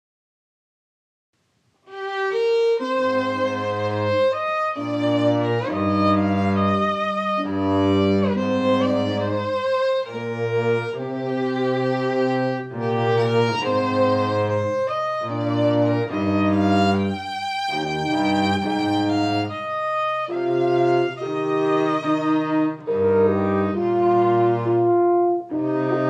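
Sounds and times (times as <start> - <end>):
slow bowed string melody: 1.9 - 26.0
held low notes: 2.2 - 26.0.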